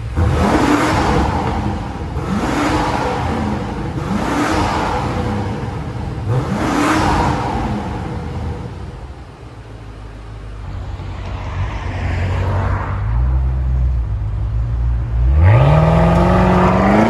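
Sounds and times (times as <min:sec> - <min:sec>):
car exhaust drone and acceleration: 0:00.0 - 0:17.0.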